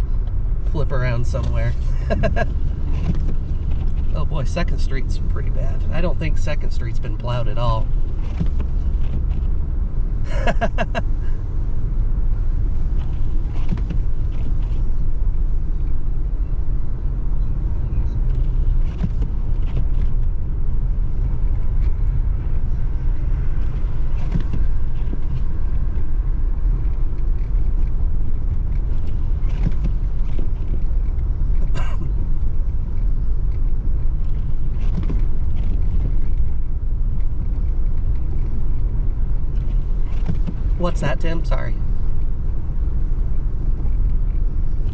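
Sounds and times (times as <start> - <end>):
car driving on snow: 0.0 - 44.9.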